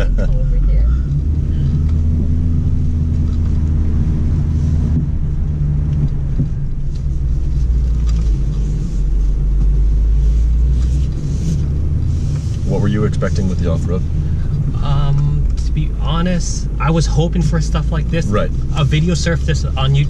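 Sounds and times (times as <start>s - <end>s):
low engine and road rumble: 0.0s - 20.0s.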